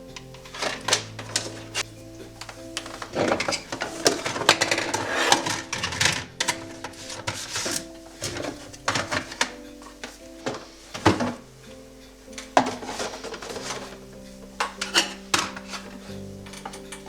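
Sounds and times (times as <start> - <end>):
household objects clattering: 0.0 - 17.0.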